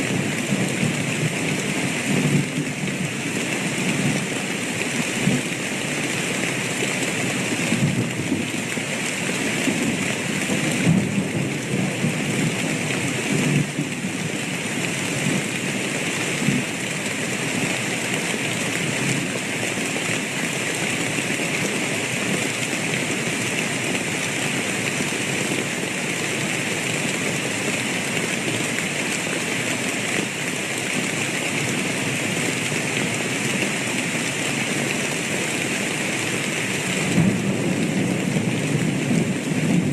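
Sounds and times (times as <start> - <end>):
heavy rainfall hiss: 0.0 - 39.9.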